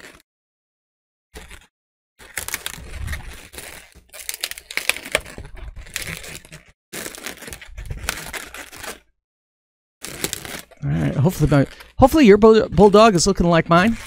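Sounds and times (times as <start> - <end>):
balloons squeaking and rubbing: 0.0 - 0.2, 1.4 - 9.1, 10.0 - 14.0.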